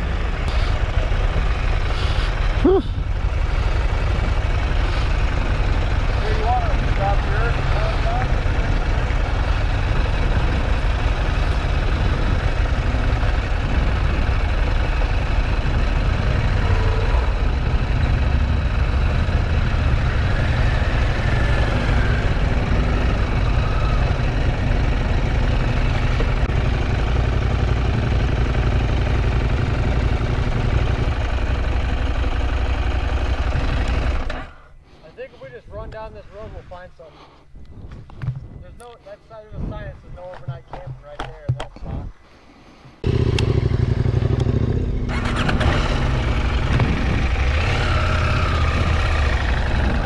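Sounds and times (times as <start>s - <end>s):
motorcycle engine rumbling: 0.0s - 42.2s, 42.8s - 50.0s.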